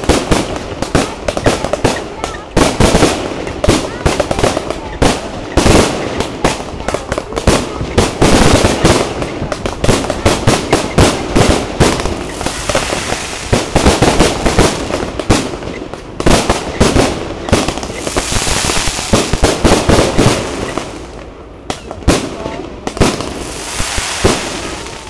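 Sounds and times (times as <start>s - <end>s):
firework bursts and bangs: 0.0s - 25.0s
fireworks hissing crackle: 0.0s - 25.0s.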